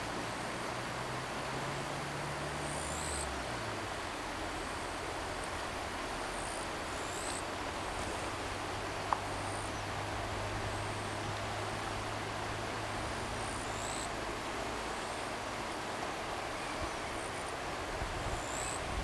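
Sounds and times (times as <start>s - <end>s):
river rapids rushing: 0.0s - 19.0s.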